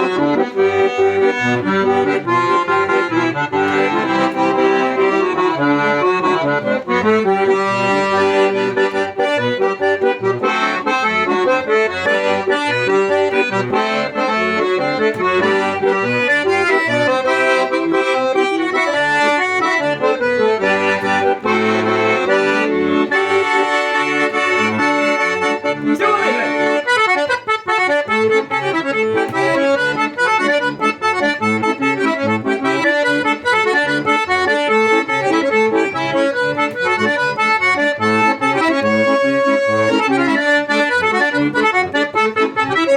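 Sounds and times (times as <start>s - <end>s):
accordion playing a tune: 0.0s - 42.9s.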